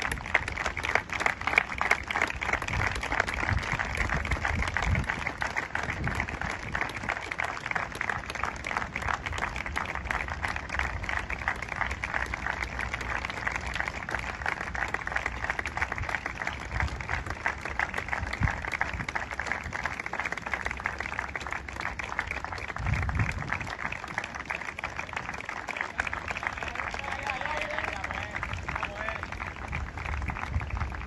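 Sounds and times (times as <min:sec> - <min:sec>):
crowd applauding: 0:00.0 - 0:31.0.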